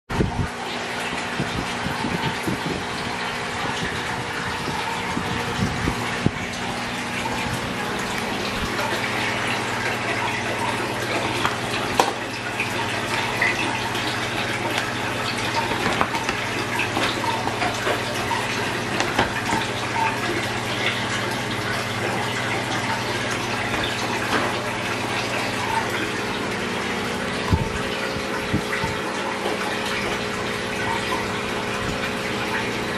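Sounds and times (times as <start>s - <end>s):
running and bubbling water: 0.1s - 32.9s.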